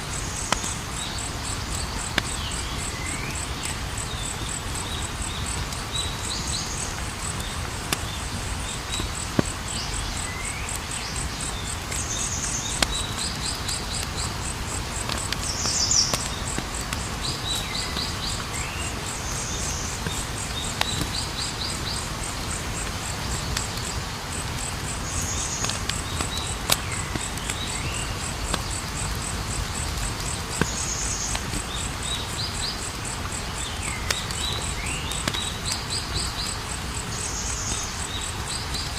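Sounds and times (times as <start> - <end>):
campfire crackling: 0.0 - 38.9
crickets chirping: 0.0 - 38.9.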